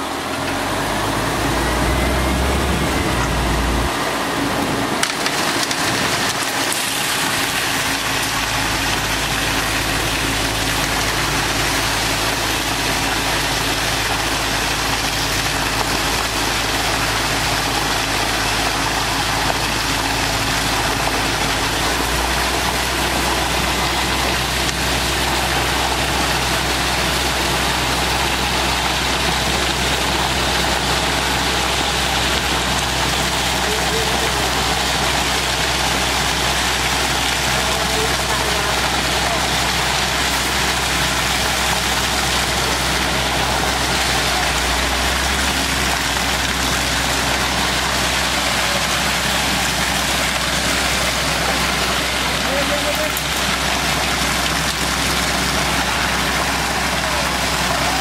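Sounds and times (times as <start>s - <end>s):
diesel engine running: 0.0s - 58.0s
wet concrete rushing down chute: 0.0s - 58.0s.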